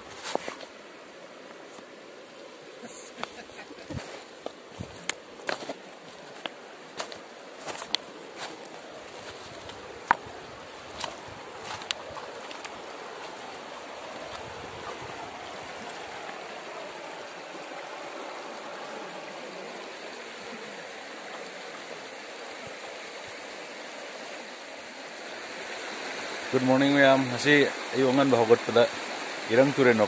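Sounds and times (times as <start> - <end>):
river rushing over rapids: 0.0 - 30.0.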